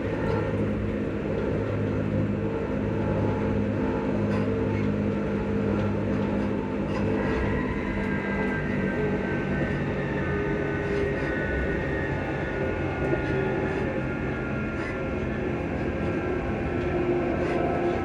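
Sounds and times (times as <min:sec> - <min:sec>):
electric train motors humming: 0:00.0 - 0:18.0
train running gear rumbling: 0:00.0 - 0:18.0.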